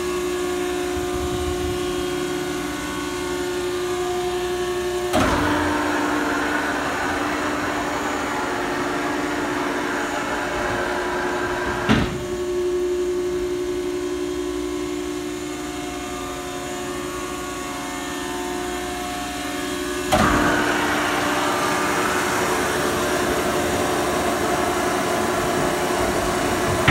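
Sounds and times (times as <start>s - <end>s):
hydraulic unit hum and whine: 0.0s - 26.9s.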